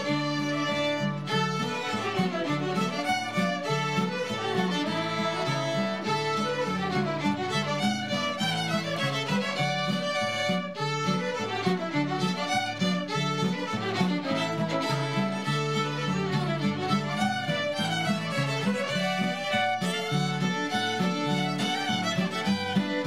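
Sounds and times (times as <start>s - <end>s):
fiddles playing lively tune: 0.0s - 23.0s.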